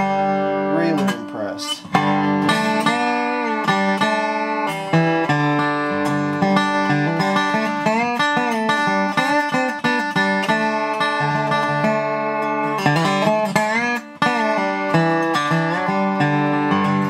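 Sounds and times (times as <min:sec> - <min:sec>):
slide guitar fingerpicked: 0:00.0 - 0:17.0.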